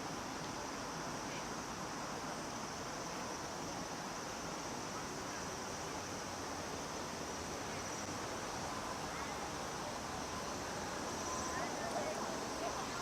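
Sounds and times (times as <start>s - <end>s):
cicadas chorus: 2.4s - 13.0s.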